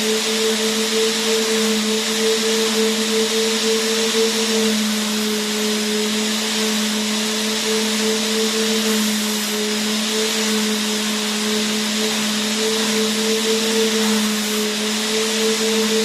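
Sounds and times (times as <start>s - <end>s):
vacuum cleaner motor running: 0.0s - 16.0s.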